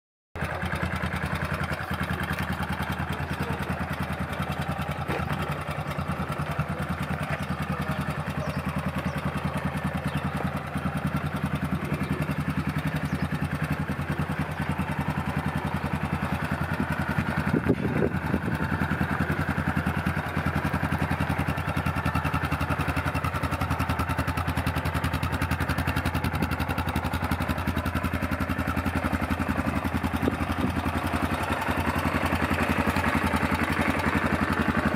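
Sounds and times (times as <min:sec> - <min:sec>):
quad bike engine idling: 0:00.4 - 0:34.9.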